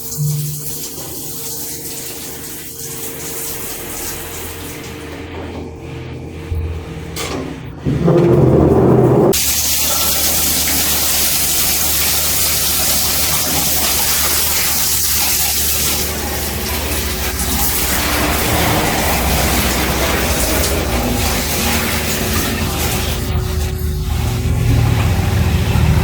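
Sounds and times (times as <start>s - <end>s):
water running from a tap: 0.0s - 5.3s, 9.3s - 26.0s.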